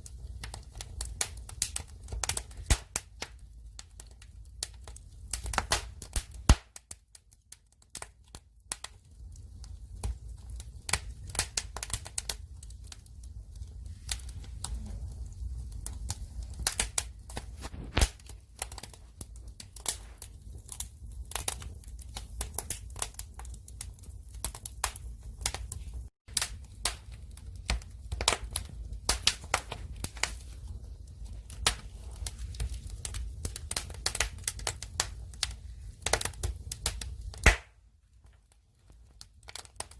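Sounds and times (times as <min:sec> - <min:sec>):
fire rumble: 0:00.0 - 0:39.9
logs crackling and snapping: 0:00.0 - 0:39.9.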